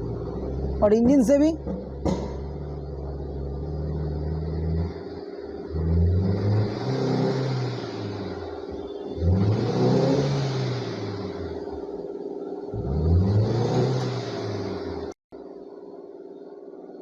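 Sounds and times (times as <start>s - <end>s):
car engine misfiring: 0.0s - 15.1s.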